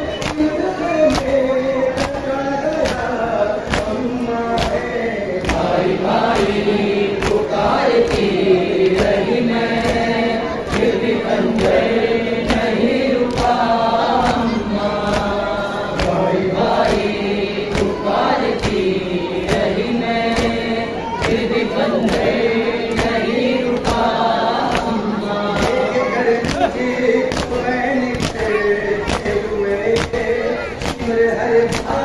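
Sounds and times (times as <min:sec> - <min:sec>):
men chanting over loudspeakers: 0:00.0 - 0:32.0
hands slapping chests: 0:02.0 - 0:32.0.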